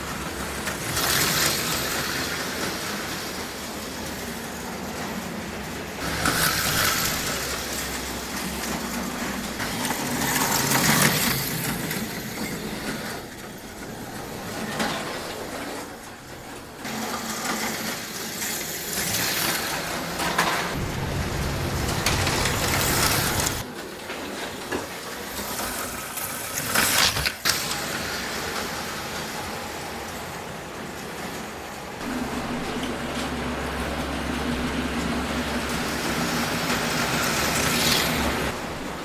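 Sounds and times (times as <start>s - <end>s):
slot cars whirring: 0.0s - 39.0s.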